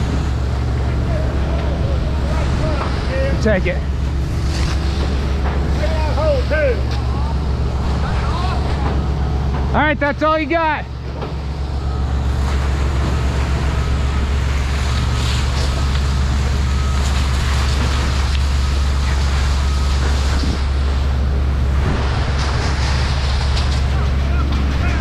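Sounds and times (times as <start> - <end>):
fire engine pump drone: 0.0 - 25.0
fire hose spraying water: 0.0 - 25.0.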